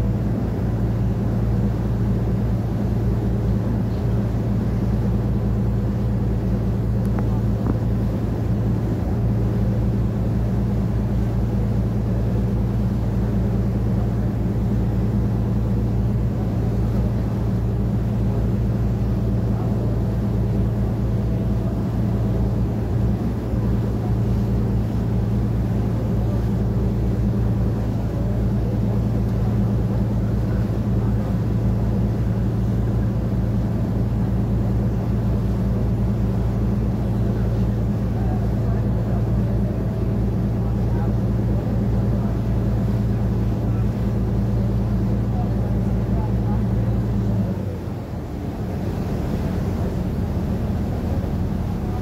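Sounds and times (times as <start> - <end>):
boat engine droning: 0.0 - 52.0
water rushing past hull: 0.0 - 52.0.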